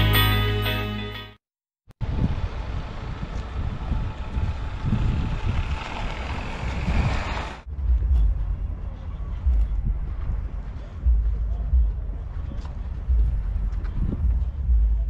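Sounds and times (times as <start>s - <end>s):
wind rumbling on microphone: 2.0s - 15.0s.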